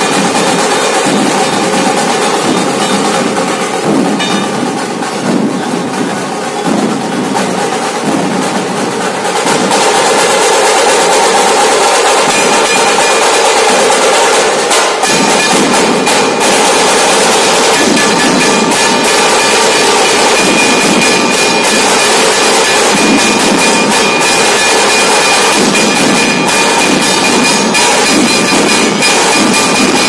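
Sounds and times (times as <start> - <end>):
barrel drums beating: 0.0 - 30.0
small drums played with sticks: 0.0 - 30.0.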